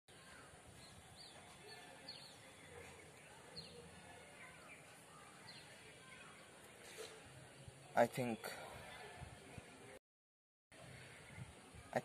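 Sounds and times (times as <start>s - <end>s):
distant birds chirping: 0.1s - 9.9s, 10.7s - 12.0s.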